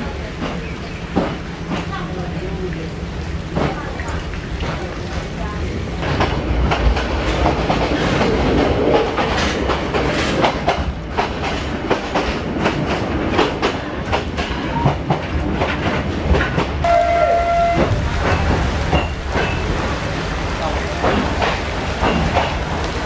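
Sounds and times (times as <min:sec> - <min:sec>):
train wheels clattering on rails: 0:00.0 - 0:02.6, 0:03.4 - 0:16.9, 0:17.6 - 0:23.0.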